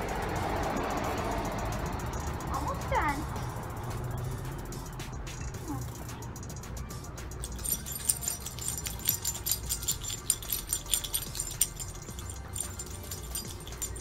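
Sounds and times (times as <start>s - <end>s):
metal chain collar jingling: 0.0s - 6.7s, 7.3s - 14.0s.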